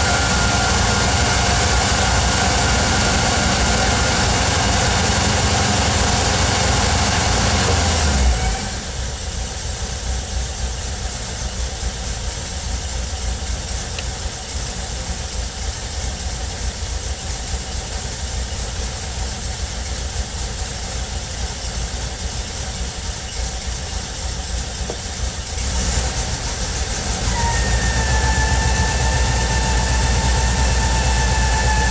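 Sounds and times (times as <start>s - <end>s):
van engine idling: 0.0s - 31.9s.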